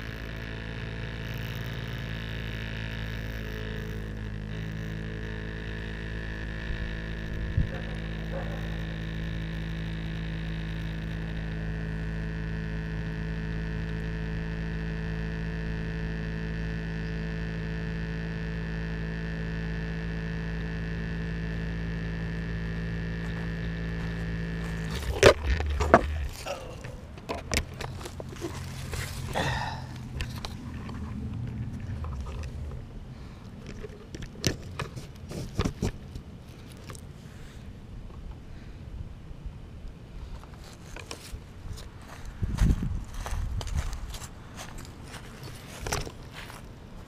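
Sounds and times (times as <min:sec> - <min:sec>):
drone electrical hum: 0:00.0 - 0:47.0.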